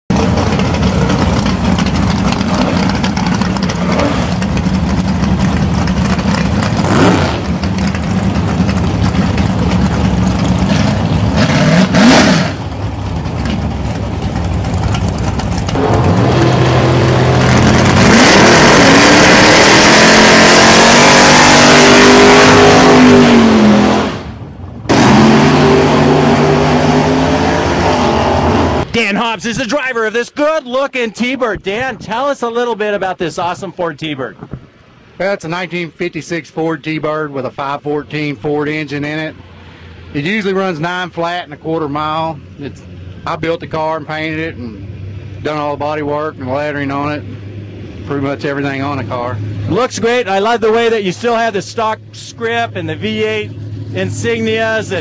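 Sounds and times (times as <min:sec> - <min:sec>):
car engine idling and revving: 0:00.1 - 0:29.0, 0:36.8 - 0:55.0.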